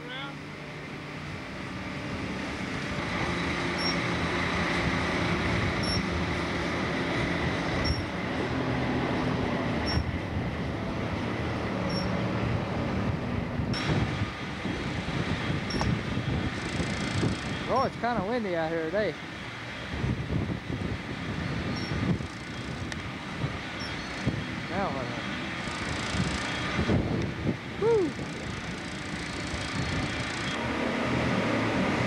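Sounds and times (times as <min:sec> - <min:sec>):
diesel engine running: 0:00.0 - 0:32.0
wind noise on microphone: 0:01.2 - 0:32.0.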